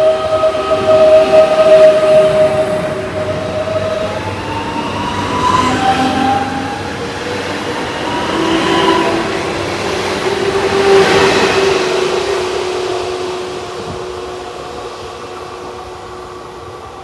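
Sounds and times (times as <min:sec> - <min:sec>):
train rail rumble: 0:00.0 - 0:17.0.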